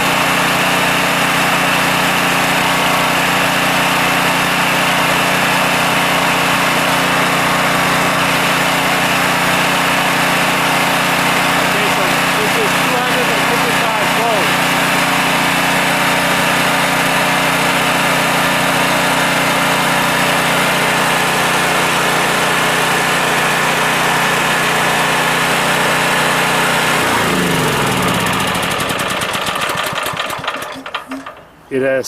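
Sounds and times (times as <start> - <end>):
generator winding down: 0.0 - 31.6
generator engine running: 0.0 - 32.0.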